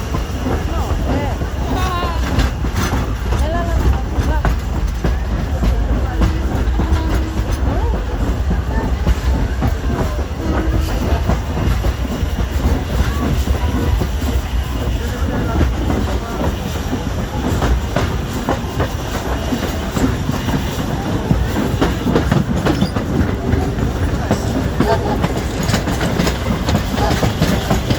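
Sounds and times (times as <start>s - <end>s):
train rumbling: 0.0s - 27.9s
wheels clacking over rail joints: 0.0s - 27.9s.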